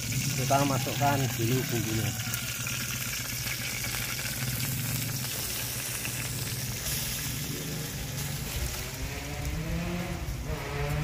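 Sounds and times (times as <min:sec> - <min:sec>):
spices sizzling in a pan: 0:00.0 - 0:09.0.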